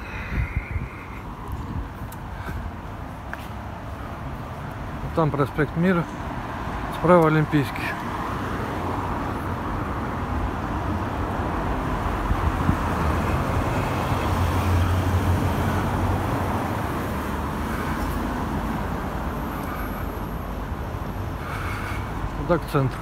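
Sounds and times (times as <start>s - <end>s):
cars driving past: 0.0s - 23.0s
van engine hum: 0.0s - 23.0s.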